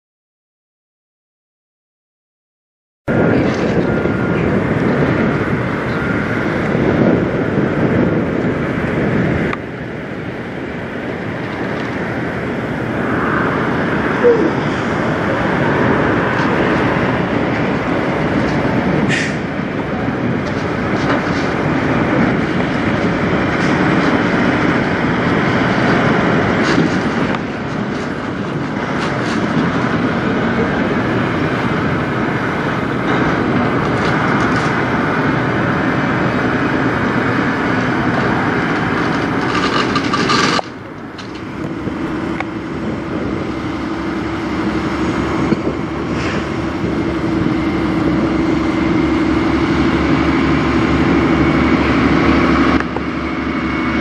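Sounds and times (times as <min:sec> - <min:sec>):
diesel truck engines rumbling: 0:03.1 - 0:54.0
truck engine droning: 0:03.1 - 0:54.0.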